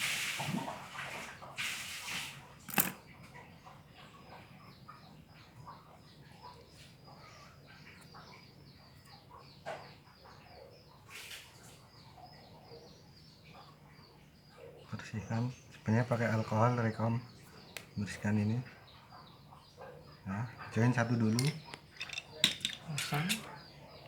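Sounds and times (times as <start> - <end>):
faint bird chirps: 3.4 - 24.0.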